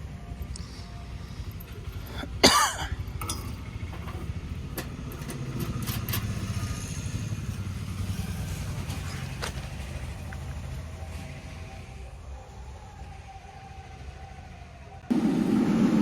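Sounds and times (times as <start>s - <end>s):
vehicle engine rumbling: 0.0s - 12.9s.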